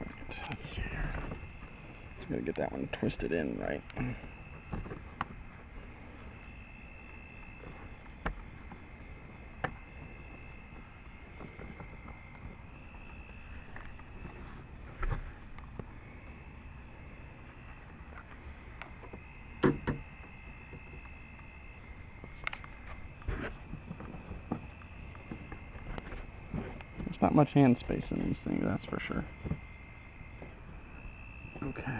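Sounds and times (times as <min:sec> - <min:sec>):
high insect trill: 0:00.0 - 0:31.9.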